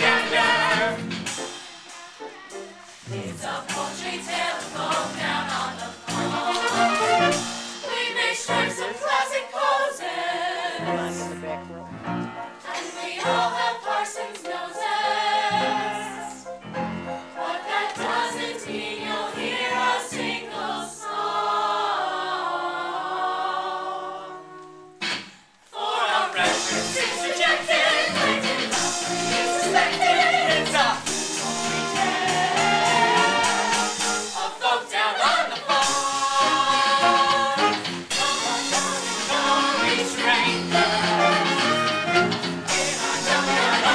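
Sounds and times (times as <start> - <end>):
group of voices singing: 0.0 - 11.8, 12.4 - 16.6, 17.3 - 24.7, 25.7 - 43.9
backing music: 0.0 - 43.9.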